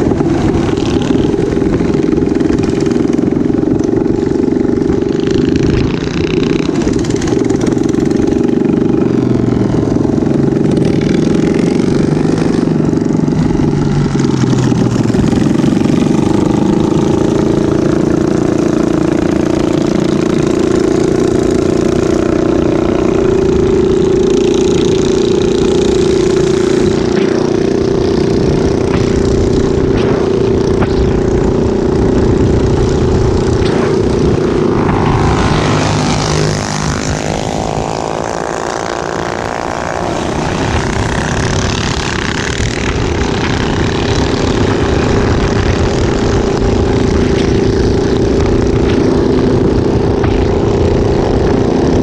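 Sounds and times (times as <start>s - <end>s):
minibike engine running: 0.0s - 52.0s
wind noise on microphone: 0.0s - 52.0s.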